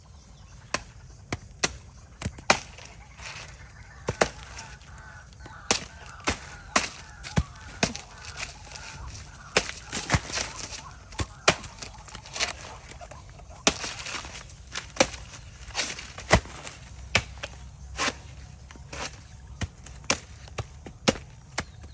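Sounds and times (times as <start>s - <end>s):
blade chopping into tree trunk: 0.7s - 21.9s.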